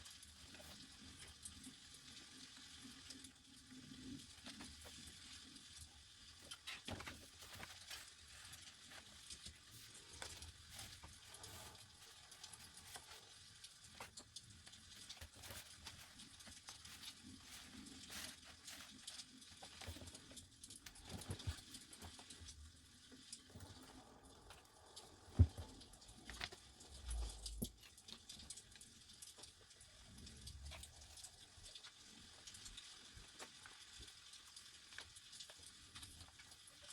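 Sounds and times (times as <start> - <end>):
pages turning and rustling: 6.3 - 22.6, 23.3 - 36.9.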